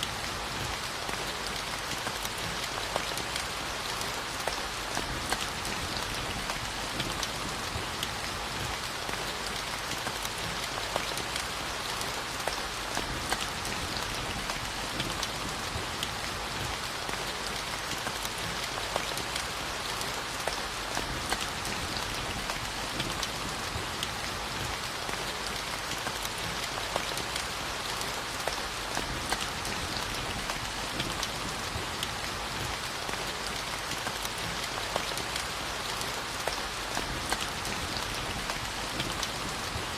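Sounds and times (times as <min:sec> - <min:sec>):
raindrops pattering on surface: 0:00.0 - 0:39.9
steady rainfall: 0:00.0 - 0:39.9.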